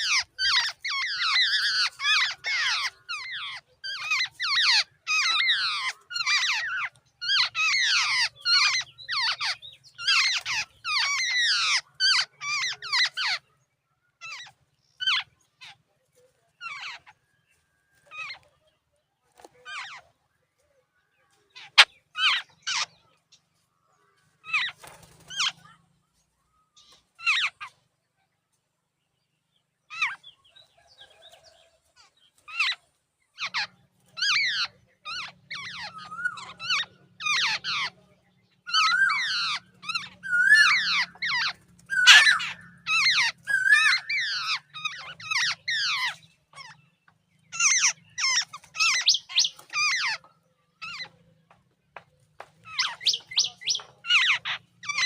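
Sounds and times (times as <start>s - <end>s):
birds calling: 0.0s - 55.0s.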